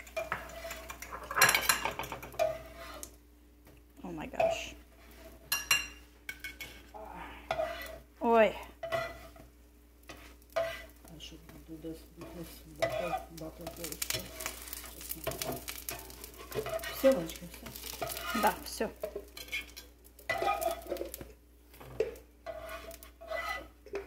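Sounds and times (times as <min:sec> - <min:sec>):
bread sizzling in butter: 0:00.0 - 0:03.2, 0:07.5 - 0:23.8
metal spatula scraping frying pan: 0:00.0 - 0:03.2, 0:04.4 - 0:08.1, 0:08.7 - 0:11.3, 0:11.9 - 0:24.0.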